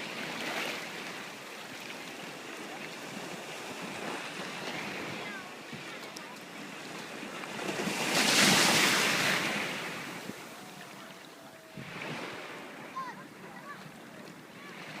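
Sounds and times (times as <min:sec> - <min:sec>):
ocean wave breaking: 0:00.0 - 0:15.0.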